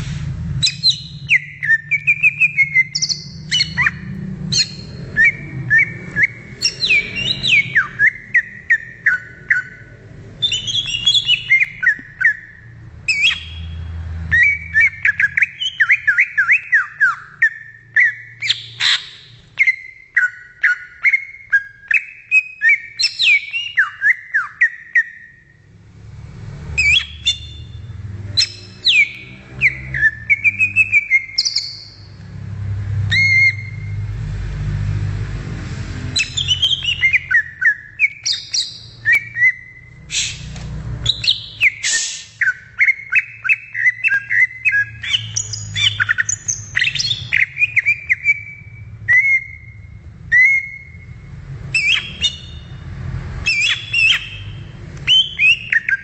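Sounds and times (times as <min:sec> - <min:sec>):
bird singing whistles and trills: 0:00.6 - 0:25.6, 0:26.7 - 0:32.2, 0:33.1 - 0:34.0, 0:36.1 - 0:52.8, 0:53.4 - 0:56.0.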